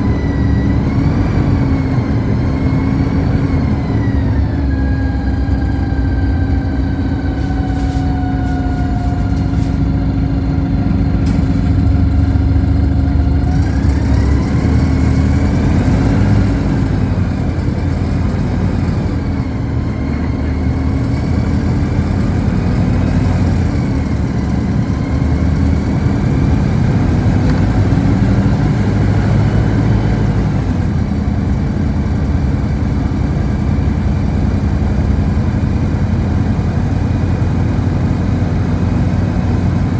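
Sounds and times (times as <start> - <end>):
bus engine drone: 0.0 - 39.9
road noise: 0.0 - 39.9.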